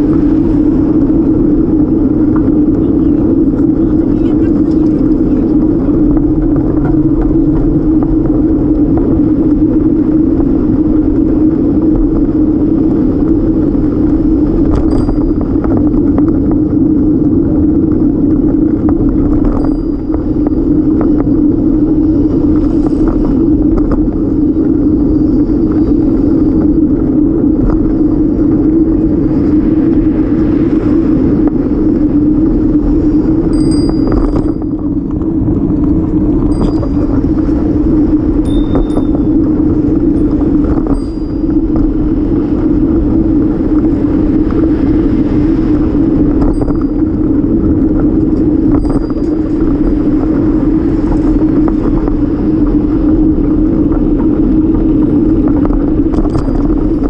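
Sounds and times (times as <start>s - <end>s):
bicycle tyre road noise: 0.0s - 57.0s
wind on microphone: 0.0s - 57.0s.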